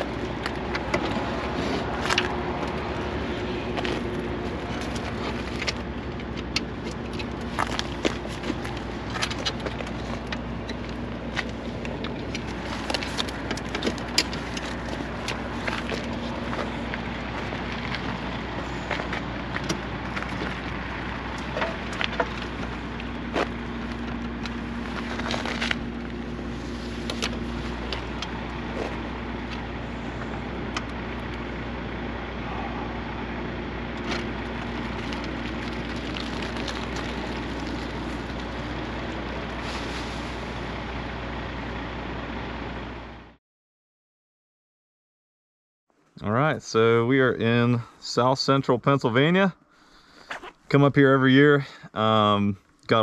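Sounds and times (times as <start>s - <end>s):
vehicle running: 0.0s - 43.4s.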